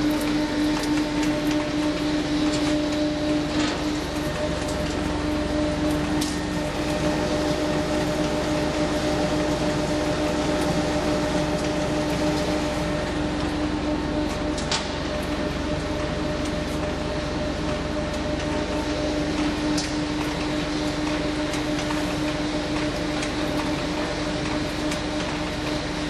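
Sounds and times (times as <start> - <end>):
machine drive humming: 0.0 - 26.0.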